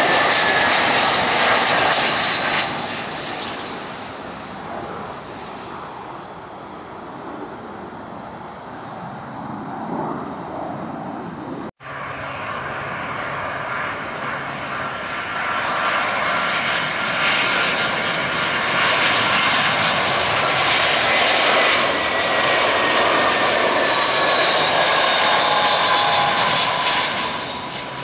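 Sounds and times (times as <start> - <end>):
high engine whine: 0.0 - 15.3, 19.1 - 28.0
jet engines roaring: 0.0 - 28.0.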